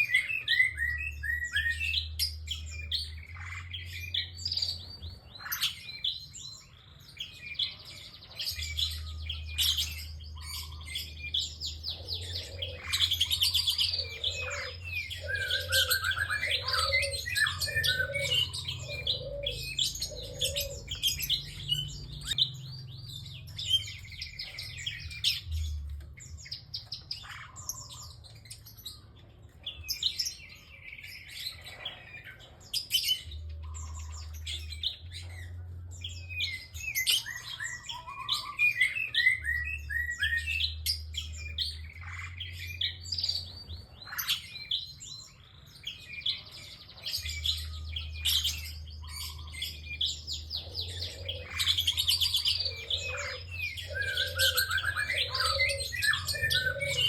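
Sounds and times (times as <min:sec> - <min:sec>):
bird singing high chirps and trills: 0:00.0 - 0:57.0.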